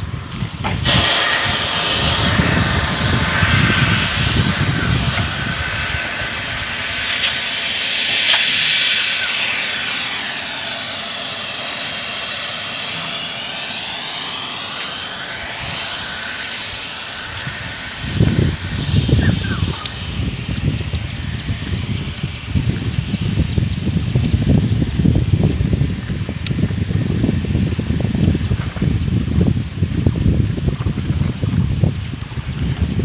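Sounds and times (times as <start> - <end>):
rushing hiss with sweeping whoosh: 0.0 - 30.7
wind buffeting microphone: 0.0 - 33.0.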